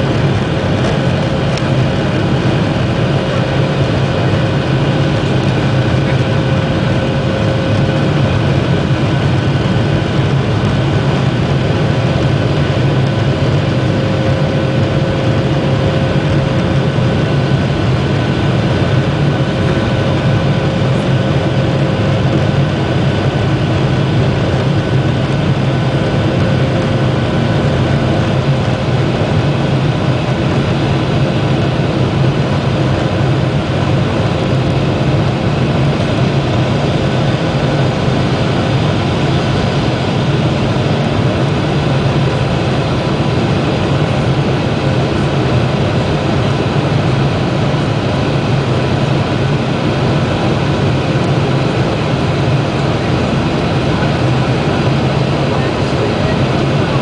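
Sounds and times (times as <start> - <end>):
jet engine drone in aircraft cabin: 0.0 - 57.0.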